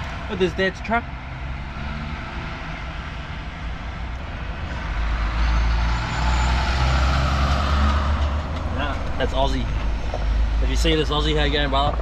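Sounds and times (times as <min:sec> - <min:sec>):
road traffic: 0:00.0 - 0:12.0
truck engine rumble: 0:00.0 - 0:12.0.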